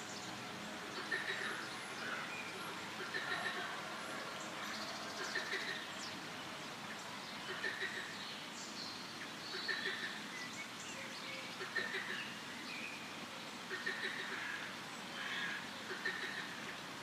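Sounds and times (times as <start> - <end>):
small birds chirping: 0.0 - 17.0
steady background hiss: 0.0 - 17.0.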